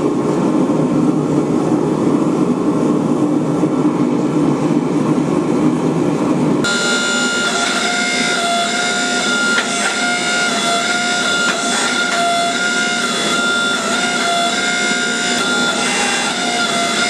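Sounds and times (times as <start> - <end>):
gas forge burner rushing: 0.0 - 17.0.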